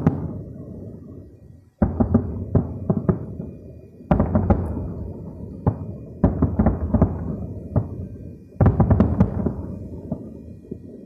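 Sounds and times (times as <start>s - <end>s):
distant fireworks booming: 0.0s - 11.0s.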